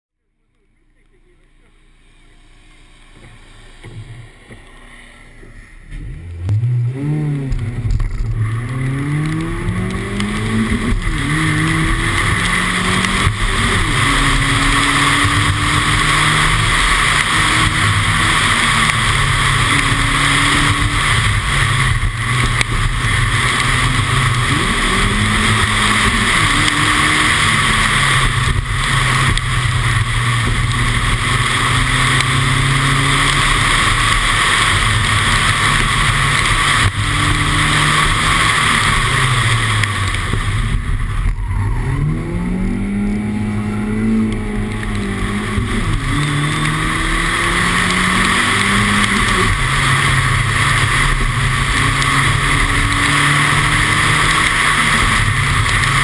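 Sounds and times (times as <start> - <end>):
car engine accelerating: 0.1 - 56.0
tyres hissing on wet tarmac: 8.5 - 56.0.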